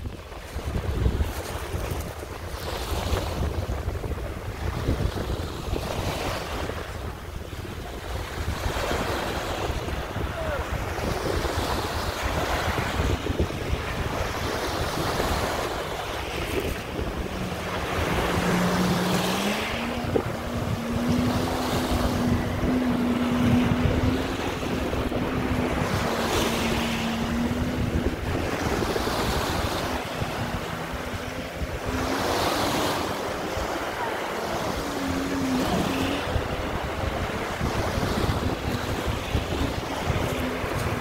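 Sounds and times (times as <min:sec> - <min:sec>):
jet ski engine hum: 0:00.0 - 0:41.0
wind buffeting microphone: 0:00.0 - 0:41.0
small waves on pebble shore: 0:07.6 - 0:41.0.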